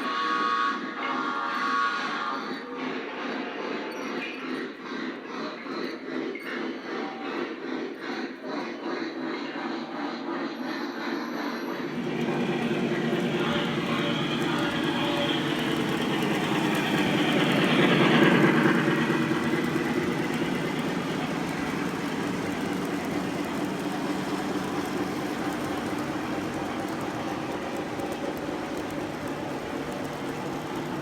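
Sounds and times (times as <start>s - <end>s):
model train rumbling on track: 0.0s - 31.0s.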